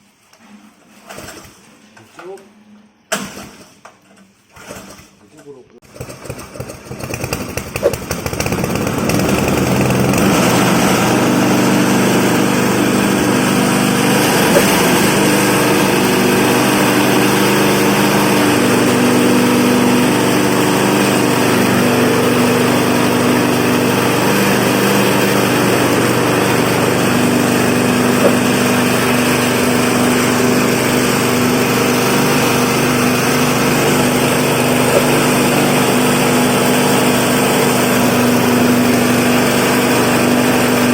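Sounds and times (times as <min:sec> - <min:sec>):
grinding machine motor: 0:08.0 - 0:40.9.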